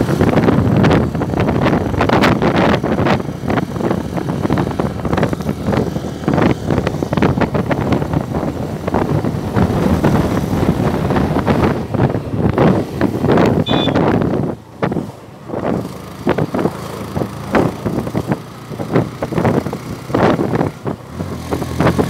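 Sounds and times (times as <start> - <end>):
motorcycle engine: 0.0 - 22.0
road noise: 0.0 - 22.0
wind buffeting microphone: 0.0 - 22.0.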